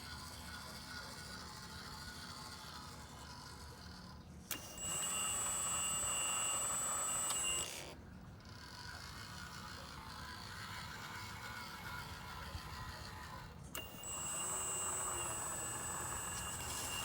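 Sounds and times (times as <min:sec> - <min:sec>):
electric pump whining: 0:00.0 - 0:17.0.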